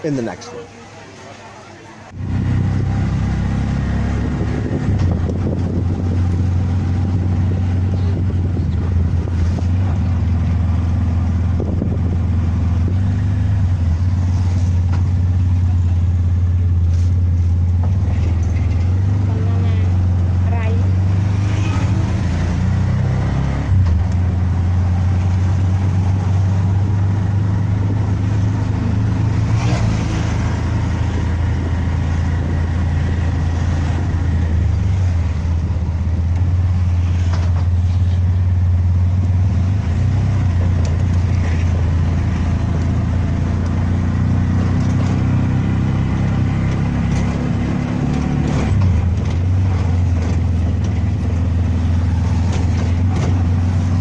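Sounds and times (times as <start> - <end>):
vehicle engine running: 2.1 - 54.0.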